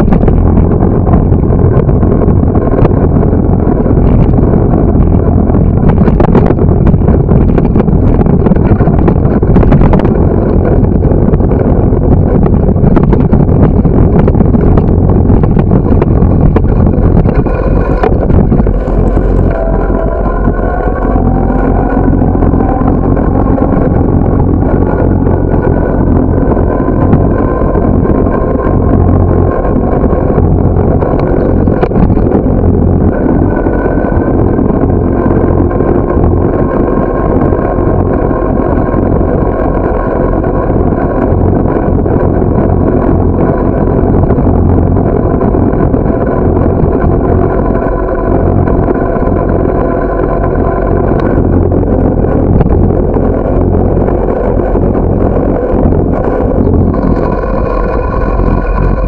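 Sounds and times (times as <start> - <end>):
faint continuous whine: 0.0 - 59.0
wind and road noise rumble: 0.0 - 59.0.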